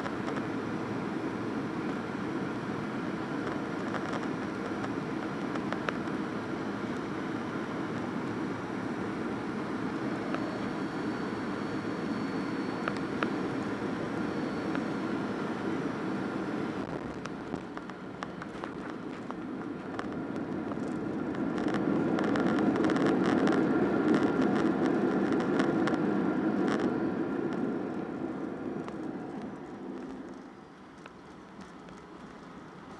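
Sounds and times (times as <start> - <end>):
aircraft engines and wheels rumbling: 0.0 - 32.9.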